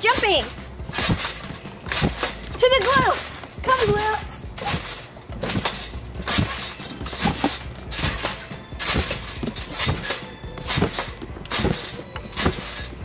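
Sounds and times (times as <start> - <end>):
trampoline bouncing: 0.0 - 13.0.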